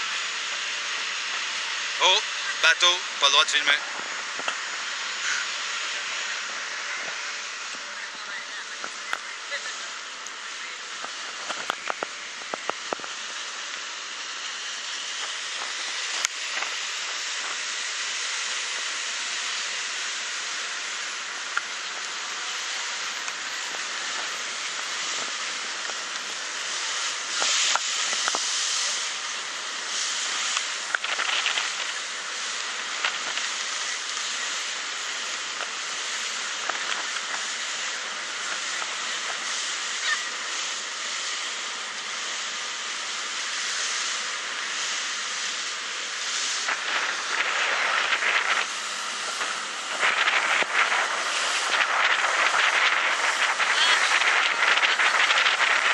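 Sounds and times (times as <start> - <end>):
wind and water rushing: 0.0 - 55.9.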